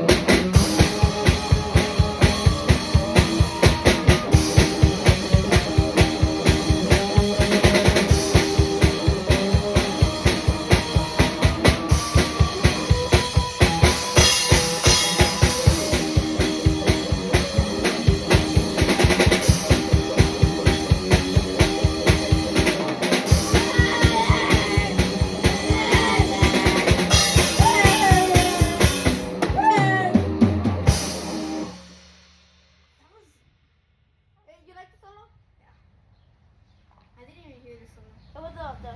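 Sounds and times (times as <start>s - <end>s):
guitar solo with bending notes: 0.0s - 31.7s
rock guitar: 0.0s - 32.1s
fast steady drum beat: 0.0s - 33.2s.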